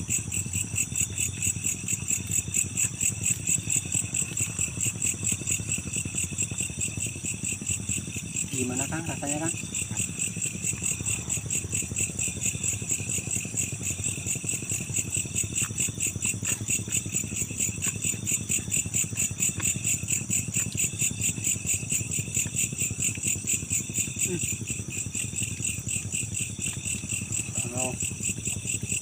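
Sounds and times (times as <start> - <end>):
crickets chirping: 0.0 - 29.0
low rhythmic pulsing: 0.0 - 29.0.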